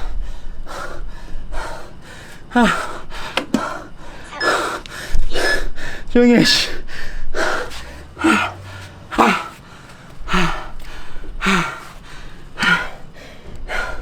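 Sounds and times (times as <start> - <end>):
man panting and groaning: 0.0 - 14.0.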